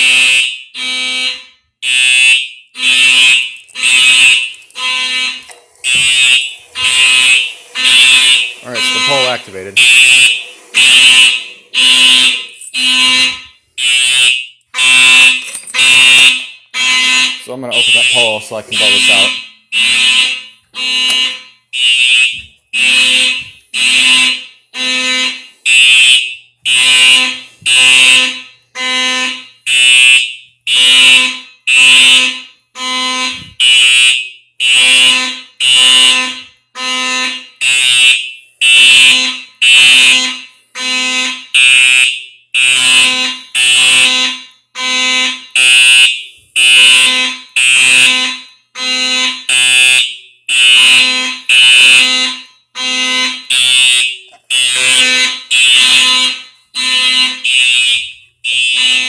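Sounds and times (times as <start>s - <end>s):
fire alarm horn pulses: 0.0s - 59.0s.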